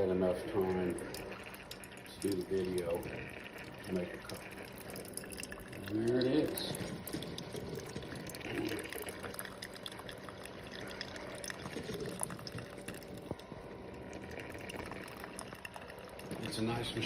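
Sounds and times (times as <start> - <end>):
coffee dripping into cup: 0.0 - 17.0
coffee maker humming: 0.0 - 17.0.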